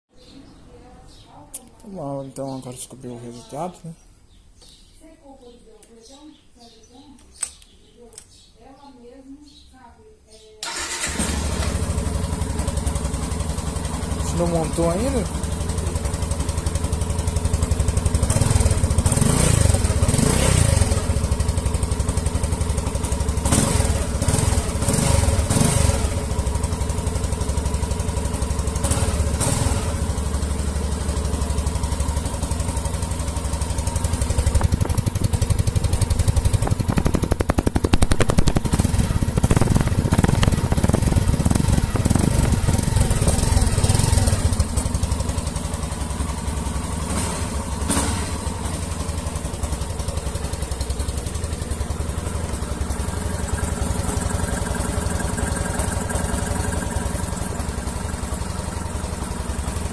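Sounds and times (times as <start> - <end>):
motorcycle engine idling and revving: 10.6 - 59.9.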